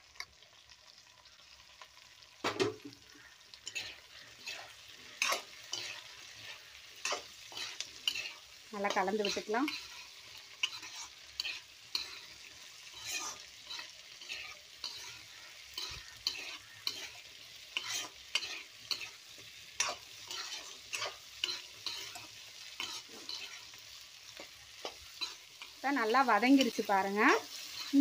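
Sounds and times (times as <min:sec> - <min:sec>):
metal spoon scraping a pan: 0:02.6 - 0:28.0.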